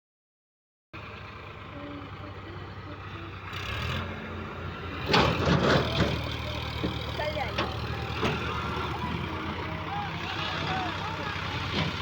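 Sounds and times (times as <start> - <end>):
diesel tractor engine running: 1.0 - 12.0.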